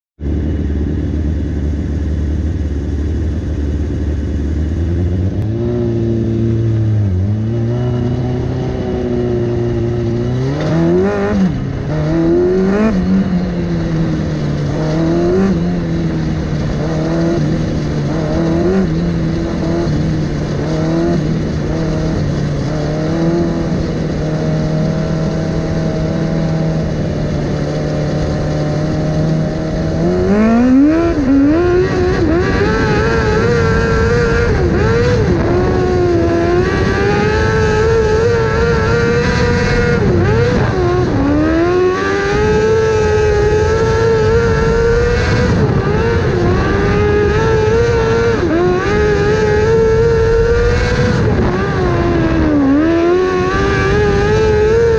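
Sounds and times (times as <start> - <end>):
race car engine: 0.2 - 54.9.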